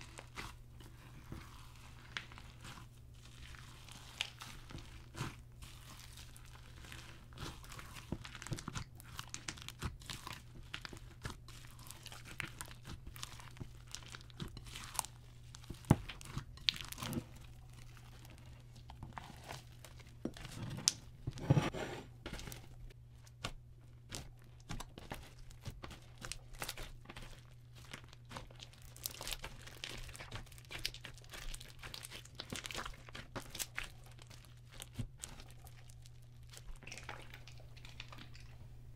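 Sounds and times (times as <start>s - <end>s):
hands squishing slime: 0.0s - 21.2s, 22.8s - 38.5s.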